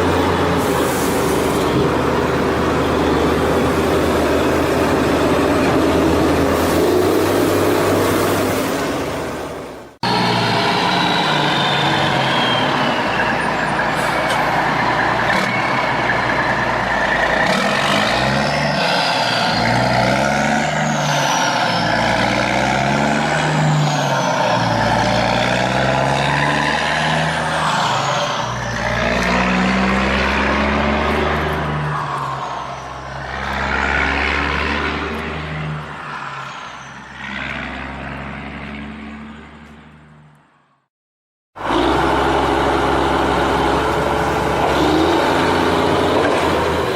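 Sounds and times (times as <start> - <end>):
heavy vehicle engine under load: 0.0 - 36.0, 41.6 - 46.9.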